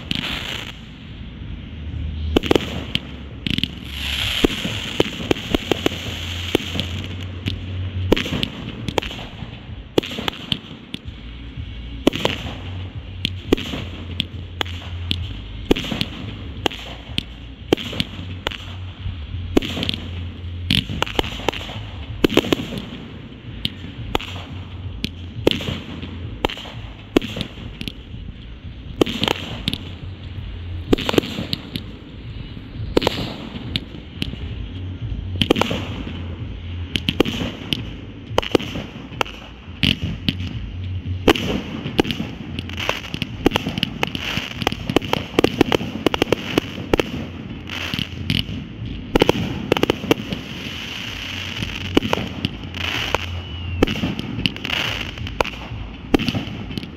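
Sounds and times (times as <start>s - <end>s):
background noise: 0.0s - 56.9s
fireworks shots and bursts: 0.0s - 56.9s.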